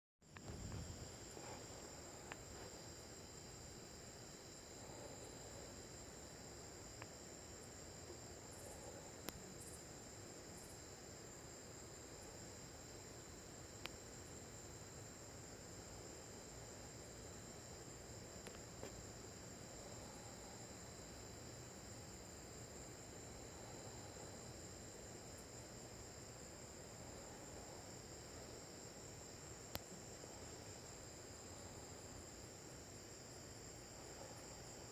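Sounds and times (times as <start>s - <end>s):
crickets chirring: 0.2s - 34.9s.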